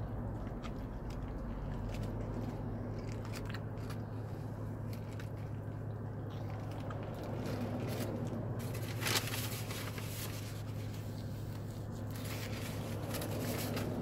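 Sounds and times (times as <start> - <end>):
low car hum: 0.0 - 14.0.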